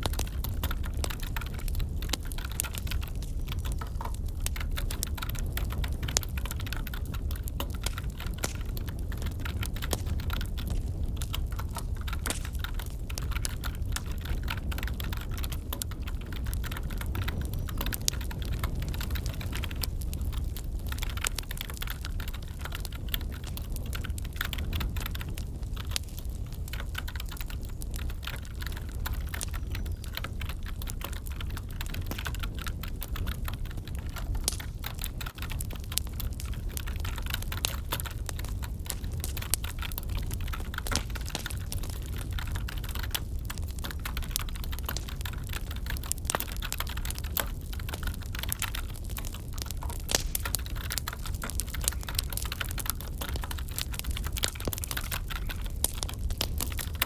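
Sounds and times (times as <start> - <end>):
wood fire crackling: 0.0 - 57.0
keyboard typing: 0.1 - 57.0.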